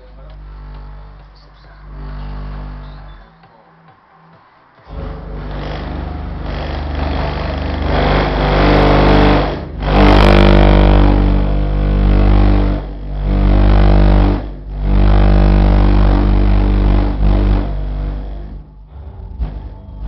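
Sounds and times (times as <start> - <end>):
heavy bass from car subwoofers: 0.0 - 3.3, 4.9 - 20.0.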